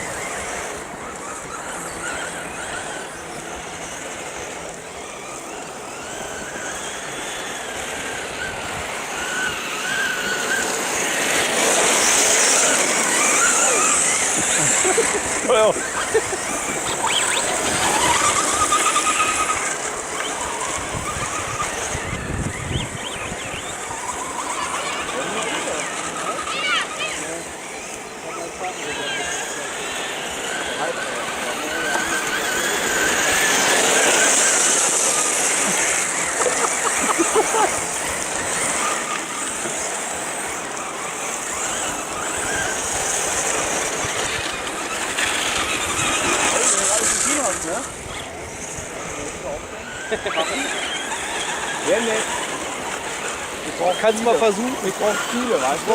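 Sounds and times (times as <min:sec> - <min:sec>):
electric motor whine: 0:00.0 - 0:55.9.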